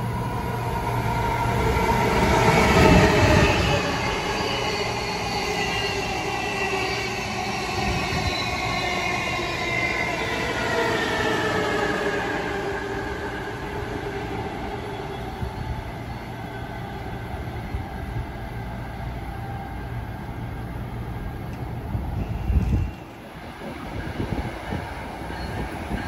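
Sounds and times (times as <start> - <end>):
train passing on tracks: 0.0 - 26.0.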